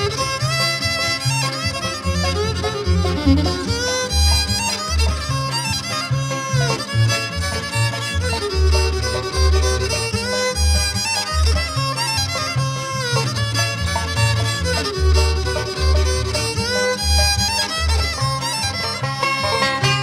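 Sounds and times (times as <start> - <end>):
fiddle playing lead: 0.0 - 20.0
bass line: 1.2 - 18.6.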